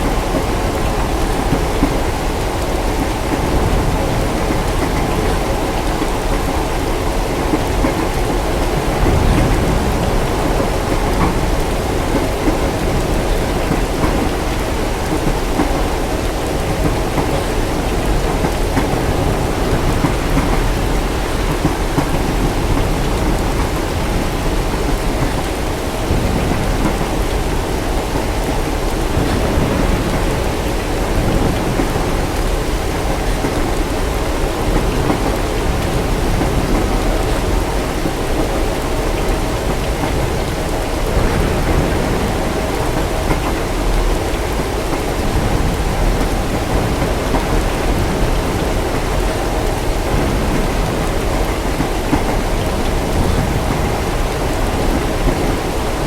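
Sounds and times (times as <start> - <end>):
heavy rain: 0.0 - 56.0
rolling thunder: 0.0 - 56.0.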